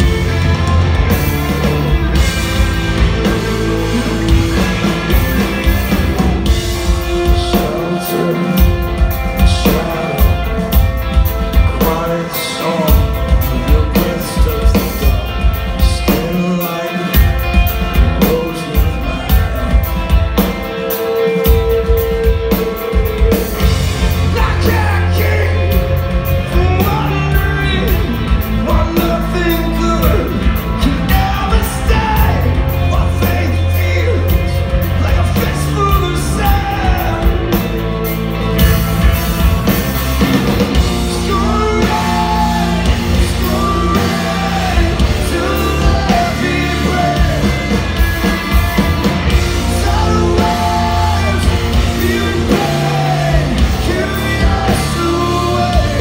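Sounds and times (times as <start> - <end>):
lead vocal singing: 0.0 - 56.0
rock band playing live: 0.0 - 56.0.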